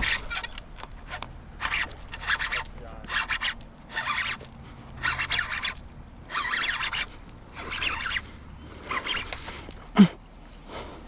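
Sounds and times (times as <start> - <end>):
fishing reel cranking: 0.0 - 9.9.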